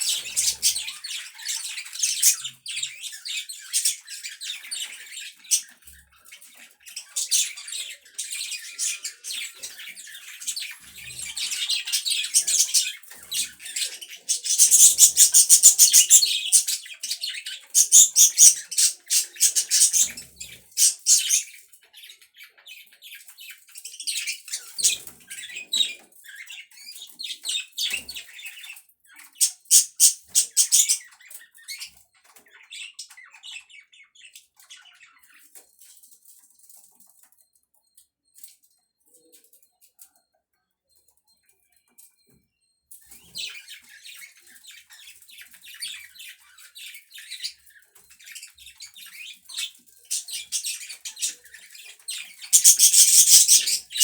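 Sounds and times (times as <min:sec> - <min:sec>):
budgerigars chattering and chirping: 0:00.0 - 0:35.9, 0:43.0 - 0:54.0.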